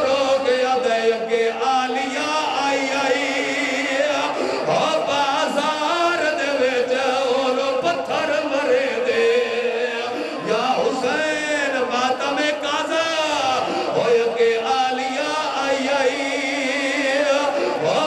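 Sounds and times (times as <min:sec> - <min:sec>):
man chanting into a loudspeaker: 0:00.0 - 0:18.0
men wailing and chanting: 0:00.0 - 0:18.0.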